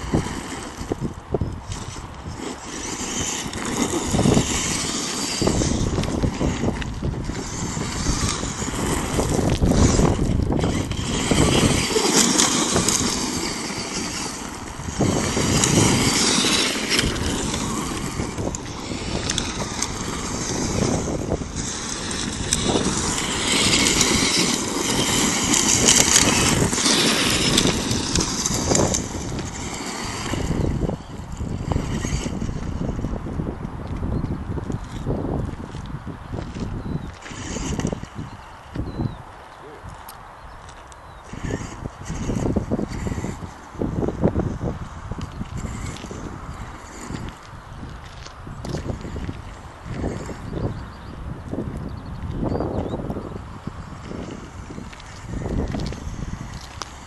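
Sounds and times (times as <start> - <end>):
electric motors whining: 0.0 - 39.2, 40.0 - 57.0
tyres running on gravel: 0.0 - 57.0
wind buffeting microphone: 0.0 - 57.0.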